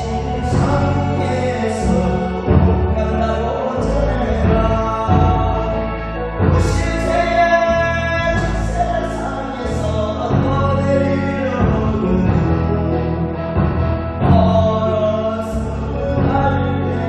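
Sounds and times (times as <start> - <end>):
song with sung vocals: 0.0 - 17.0.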